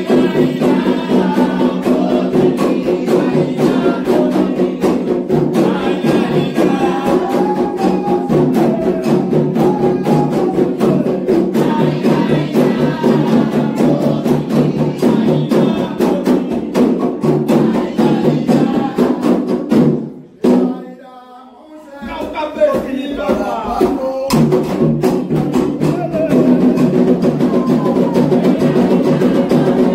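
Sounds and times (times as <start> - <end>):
hand drums fast rhythm: 0.0 - 20.8, 22.0 - 29.9
group singing: 0.0 - 29.9.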